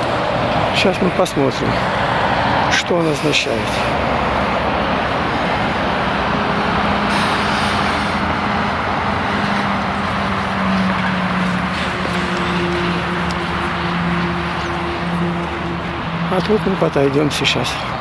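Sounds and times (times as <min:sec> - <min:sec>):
engine drone: 0:00.0 - 0:18.0
road traffic passing: 0:00.0 - 0:18.0.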